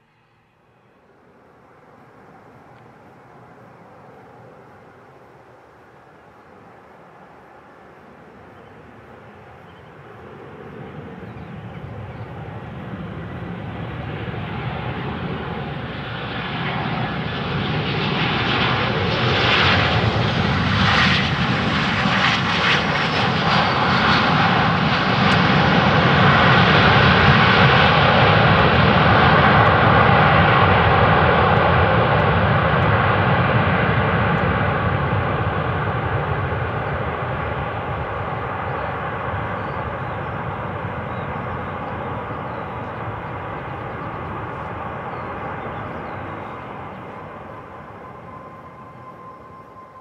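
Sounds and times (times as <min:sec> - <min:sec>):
jet engines landing: 0:00.0 - 0:50.0.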